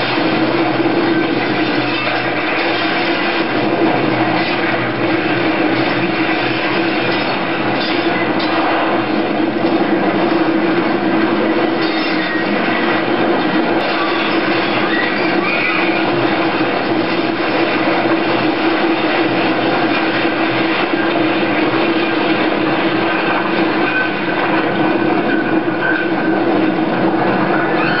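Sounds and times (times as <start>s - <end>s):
train crashing through building: 0.0s - 28.0s.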